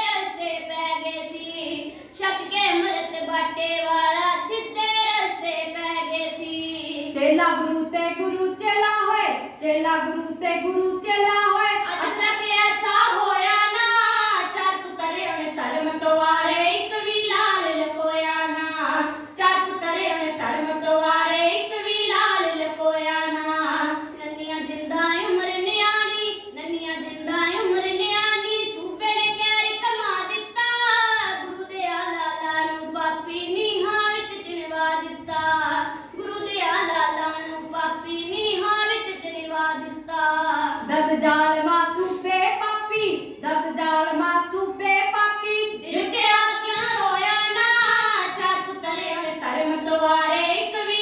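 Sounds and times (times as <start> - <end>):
boys singing unaccompanied: 0.0 - 51.0.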